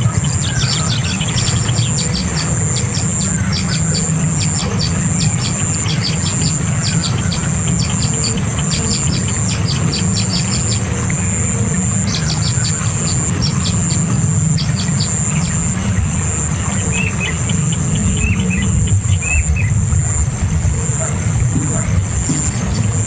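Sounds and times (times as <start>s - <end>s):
bird chirping: 0.0s - 23.0s
high-pitched whine: 0.0s - 23.0s.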